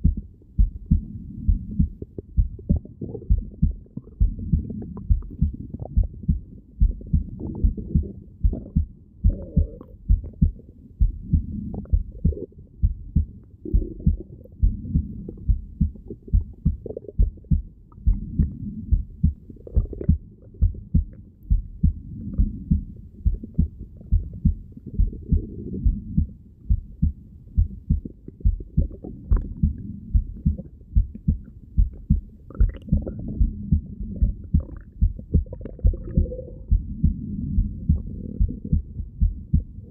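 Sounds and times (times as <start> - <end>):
stomach gurgles: 0.0 - 26.4, 27.7 - 39.9
heartbeat through stethoscope: 0.0 - 39.9.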